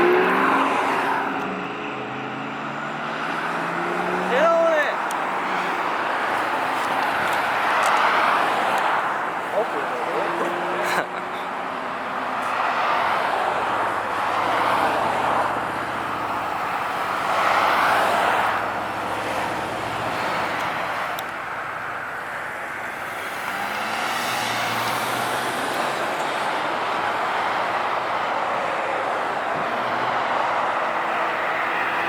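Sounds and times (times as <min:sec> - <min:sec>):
cars driving past: 0:00.0 - 0:32.0.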